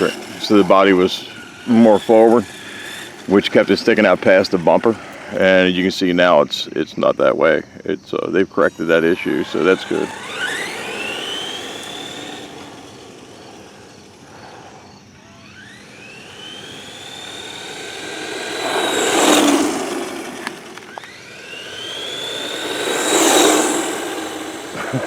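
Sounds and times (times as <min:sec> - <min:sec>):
electric motor whining: 0:00.0 - 0:06.7, 0:08.1 - 0:25.0
rc truck tyre noise passing: 0:00.0 - 0:25.0.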